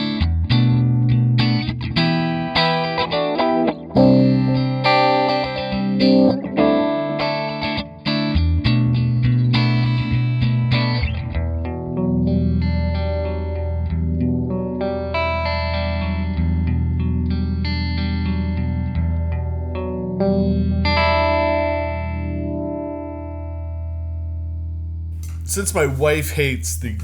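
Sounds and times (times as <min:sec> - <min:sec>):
clean electric guitar with chorus: 0:00.0 - 0:25.4.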